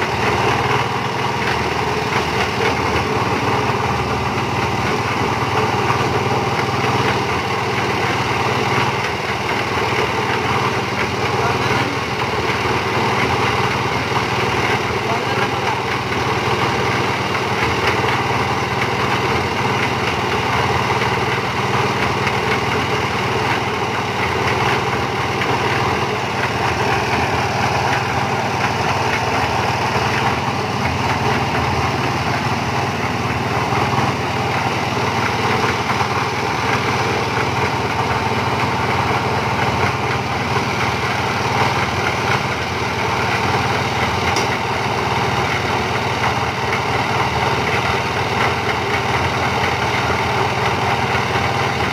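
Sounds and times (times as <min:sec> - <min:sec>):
concrete mixer engine running: 0:00.0 - 0:51.9.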